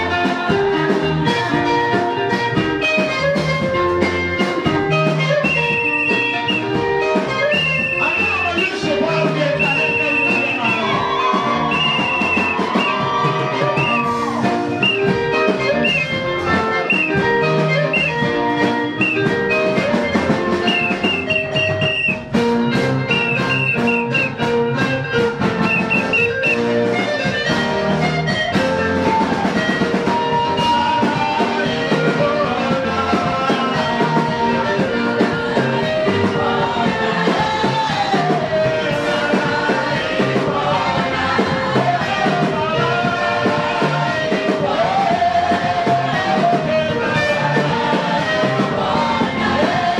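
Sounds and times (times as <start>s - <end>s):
lead singer: 0.0s - 3.8s, 4.4s - 22.3s, 25.6s - 49.9s
church choir with band: 0.0s - 49.9s.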